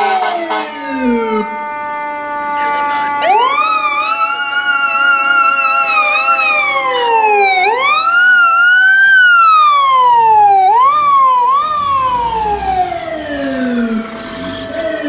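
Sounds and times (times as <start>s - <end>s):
fire truck siren wailing: 0.0s - 15.0s.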